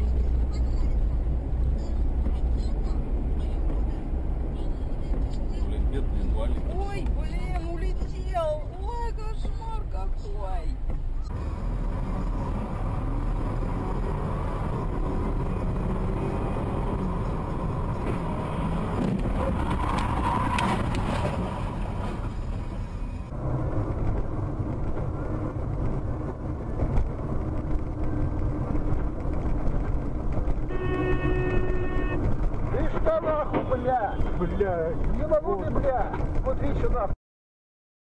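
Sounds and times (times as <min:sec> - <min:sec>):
car engine and road noise: 0:00.0 - 0:37.2.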